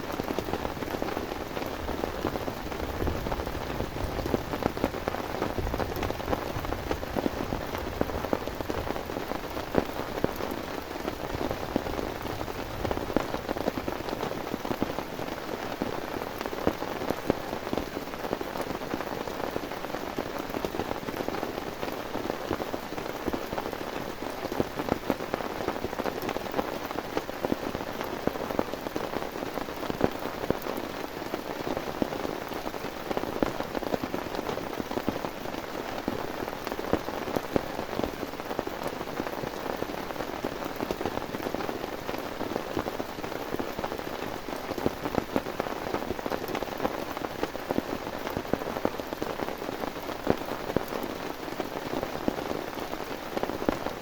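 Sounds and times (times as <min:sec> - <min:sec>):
heavy rain drops striking surface: 0:00.0 - 0:54.0.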